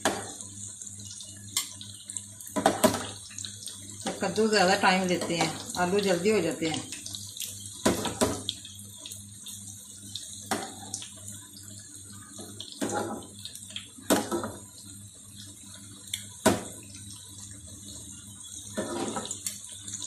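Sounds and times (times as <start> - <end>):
food deep-frying sizzle: 0.0 - 20.0.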